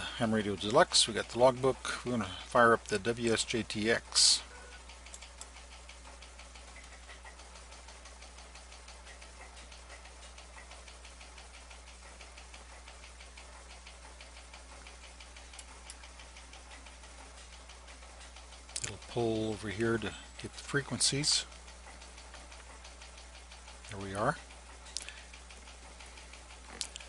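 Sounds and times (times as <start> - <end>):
rapid even ticking: 0.0 - 27.0.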